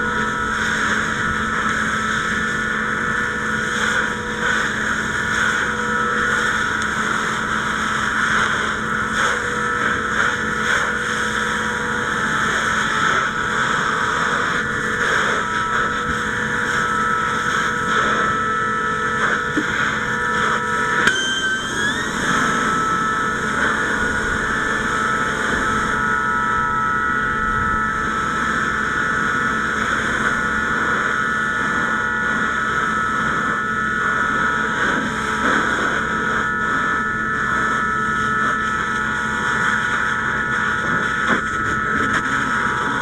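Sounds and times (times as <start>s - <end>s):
fire hose spraying water: 0.2s - 26.8s, 27.9s - 43.0s.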